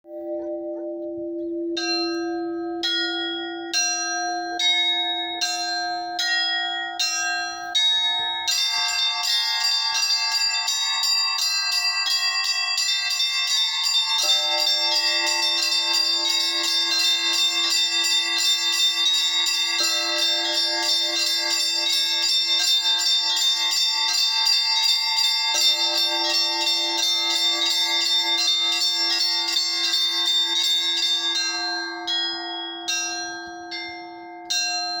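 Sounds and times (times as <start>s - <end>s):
large church bell ringing: 0.0s - 35.0s
small church bells striking: 0.0s - 35.0s.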